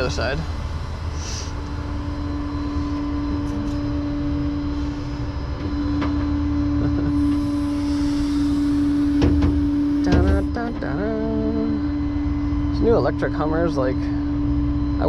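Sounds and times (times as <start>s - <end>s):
tow truck engine rumbling: 0.0s - 14.4s.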